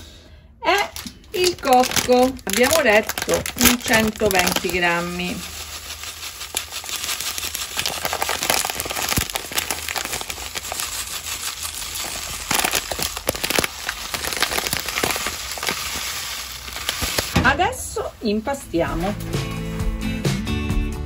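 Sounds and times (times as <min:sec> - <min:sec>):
plastic bag crinkling: 0:00.7 - 0:18.6.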